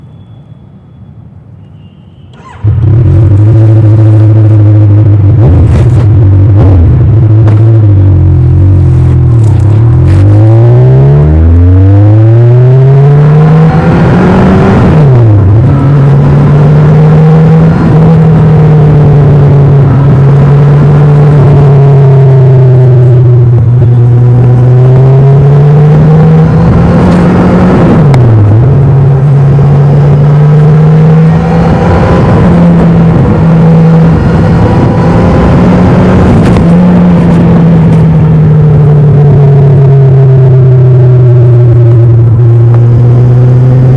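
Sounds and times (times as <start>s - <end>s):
motorcycle engine accelerating: 2.4s - 43.9s.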